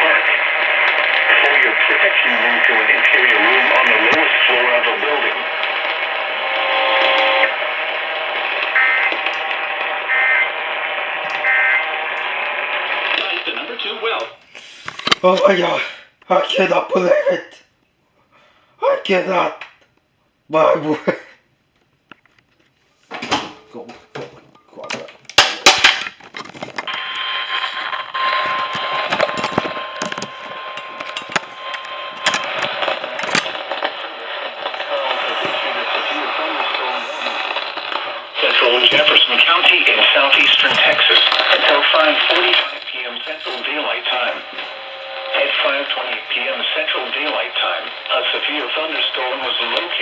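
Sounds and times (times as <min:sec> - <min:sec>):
crackling clicks: 0:00.0 - 0:15.5, 0:21.7 - 0:50.0
radio hiss: 0:00.0 - 0:17.7, 0:18.3 - 0:19.8, 0:20.4 - 0:21.4, 0:22.9 - 0:50.0.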